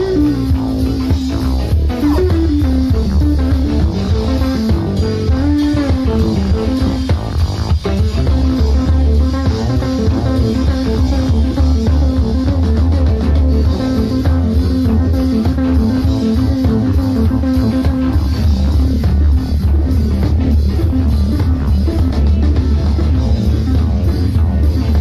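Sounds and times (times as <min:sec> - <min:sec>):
drum kit: 0:00.0 - 0:25.0
electric bass: 0:00.0 - 0:25.0
jazz fusion band playing: 0:00.0 - 0:25.0.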